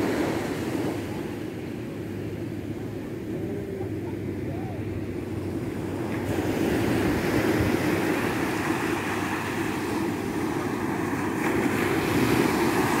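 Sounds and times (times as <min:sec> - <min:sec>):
waves breaking on sandy shore: 0:00.0 - 0:13.0
wind on microphone: 0:00.0 - 0:13.0.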